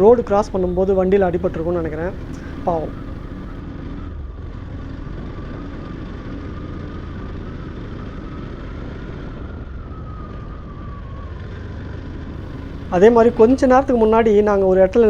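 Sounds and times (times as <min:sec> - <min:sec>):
motorcycle engine running: 0:00.0 - 0:10.2, 0:11.5 - 0:15.0
faint whine: 0:00.0 - 0:11.8, 0:12.4 - 0:15.0.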